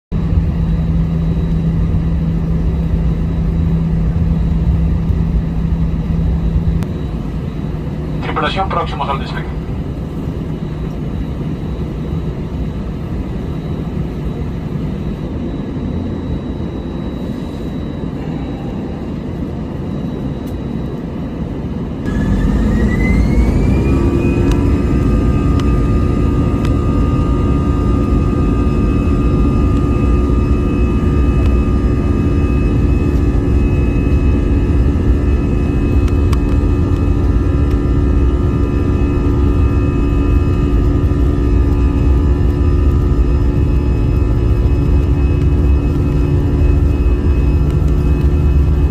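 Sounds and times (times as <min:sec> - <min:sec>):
jet engine whine rising: 0:00.1 - 0:48.9
jet engines from cabin: 0:00.1 - 0:48.9.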